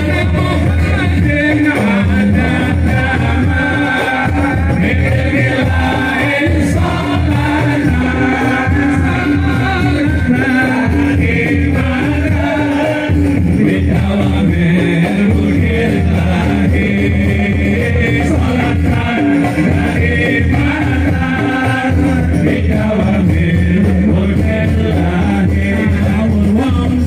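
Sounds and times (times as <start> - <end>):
man singing devotional song: 0.0 - 27.0
musical accompaniment: 0.0 - 27.0.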